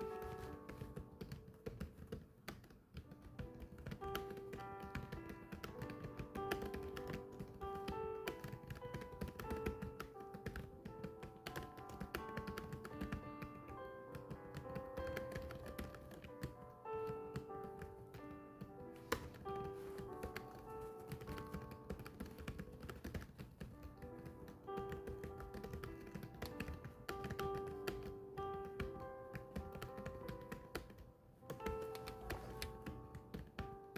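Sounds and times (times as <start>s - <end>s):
background music: 0.0s - 33.9s
rapid keyboard typing: 0.0s - 33.9s.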